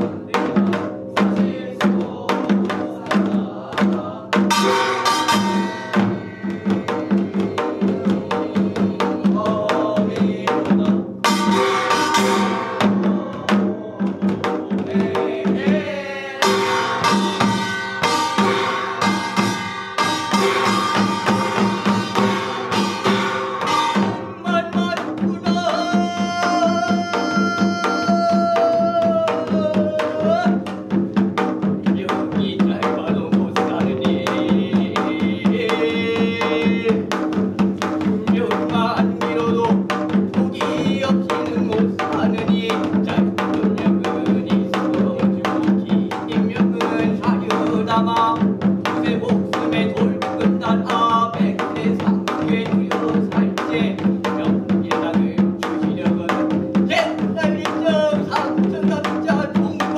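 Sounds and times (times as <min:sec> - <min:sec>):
person singing: 0:00.0 - 0:31.0, 0:31.6 - 0:59.9
traditional drums fast rhythm: 0:00.0 - 0:59.9.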